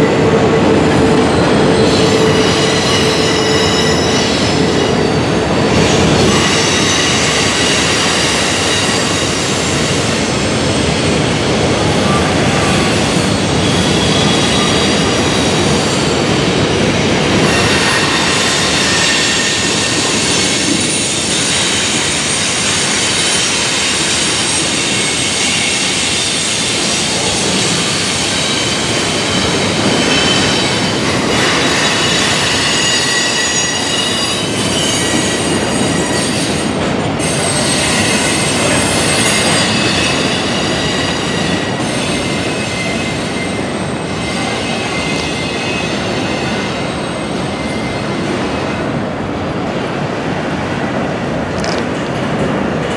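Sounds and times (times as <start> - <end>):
train cars rumbling: 0.0 - 52.9
high wheel squeal: 1.2 - 10.2, 12.0 - 16.3, 17.3 - 48.8.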